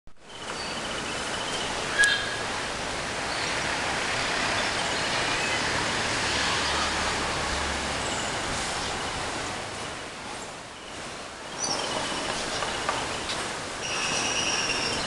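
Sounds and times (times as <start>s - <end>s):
steady outdoor hiss: 0.2s - 15.0s.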